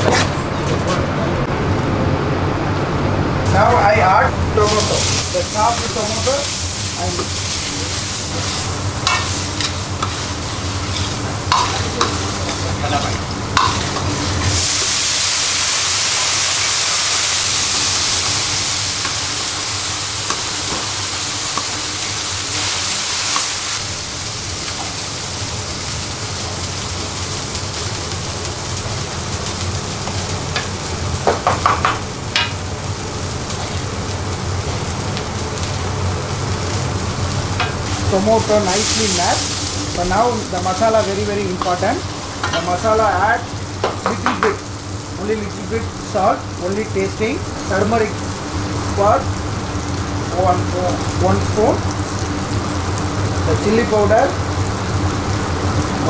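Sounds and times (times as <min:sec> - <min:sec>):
vegetables sizzling in oil: 0:03.5 - 0:56.0.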